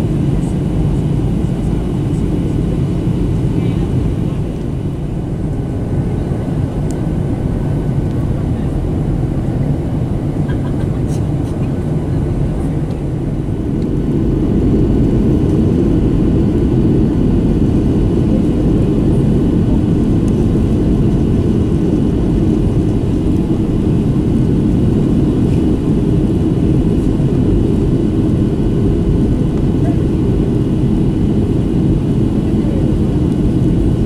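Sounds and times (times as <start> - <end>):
jet engine drone in cabin: 0.0 - 34.0.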